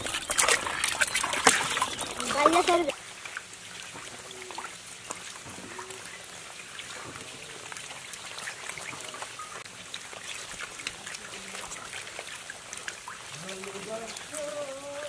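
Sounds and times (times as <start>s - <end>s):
fish slapping and splashing: 0.0s - 15.0s.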